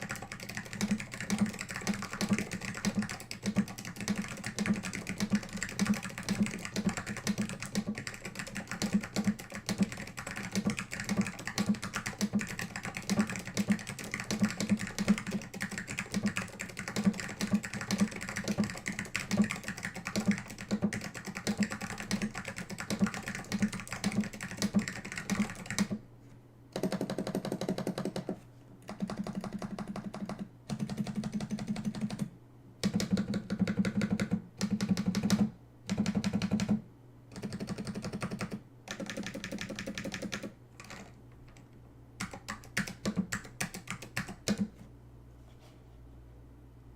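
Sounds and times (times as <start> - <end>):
mechanical keyboard typing: 0.0 - 26.0, 26.8 - 41.6, 42.2 - 44.8.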